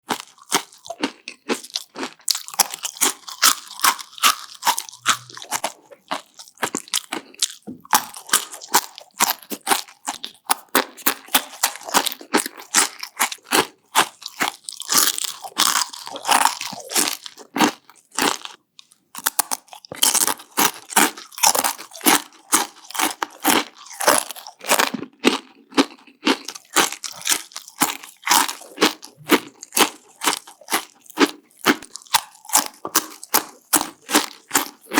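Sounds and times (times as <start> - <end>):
crunching and chewing chips: 0.0 - 34.9.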